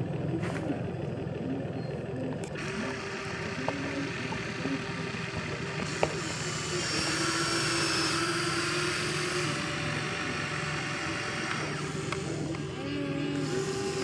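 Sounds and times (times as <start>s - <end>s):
toy excavator electric motors whining: 1.2s - 14.0s.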